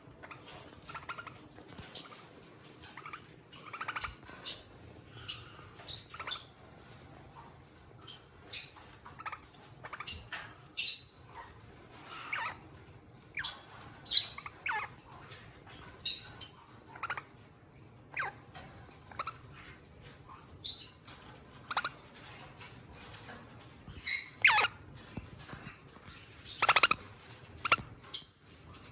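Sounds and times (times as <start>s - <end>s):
parrots calling: 0.0s - 17.5s, 18.1s - 28.9s.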